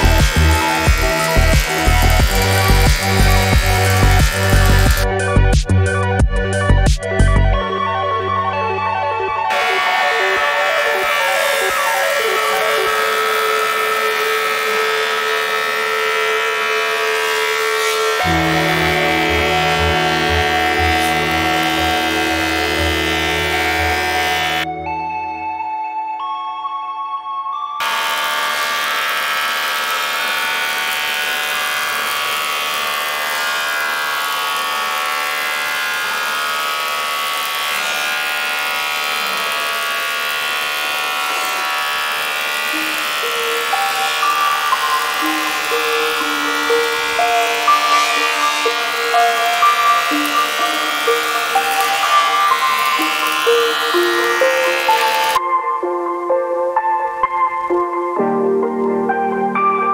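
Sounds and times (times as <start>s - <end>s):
cutterhead cutting wood: 0.0s - 6.2s, 9.5s - 24.7s, 27.8s - 55.4s
thickness planer whining: 0.0s - 25.2s, 27.8s - 58.2s.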